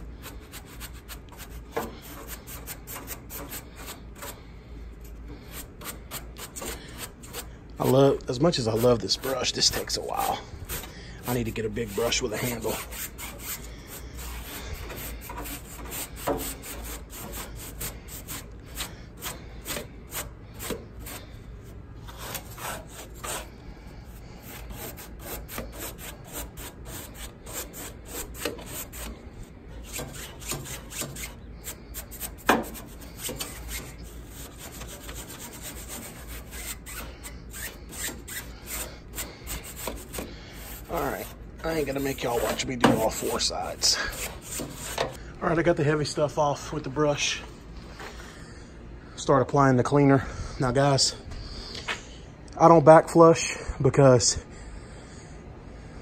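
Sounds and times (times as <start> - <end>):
brush scrape: 0.0 - 45.2
brush scrubbing metal fins: 0.0 - 45.2.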